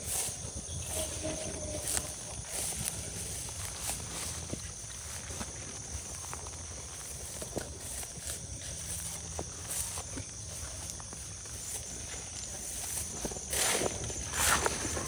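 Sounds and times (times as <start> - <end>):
footsteps through grass and leaves: 0.0 - 15.0
night insects chirring: 0.0 - 15.0.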